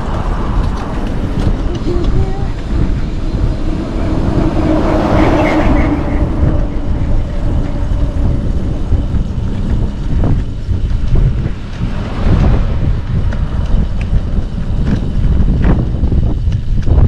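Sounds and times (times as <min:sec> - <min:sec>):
vehicle running: 0:00.0 - 0:17.0
wind rumble on microphone: 0:00.0 - 0:17.0.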